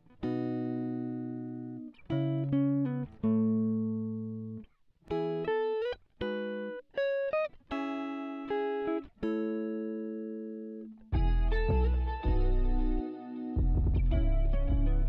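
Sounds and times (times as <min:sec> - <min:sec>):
clean guitar picking: 0:00.0 - 0:15.0.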